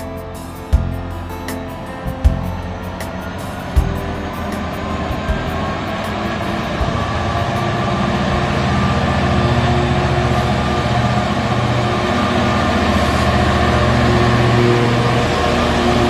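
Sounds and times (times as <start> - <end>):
diesel locomotive engine throbbing: 0.0 - 16.0.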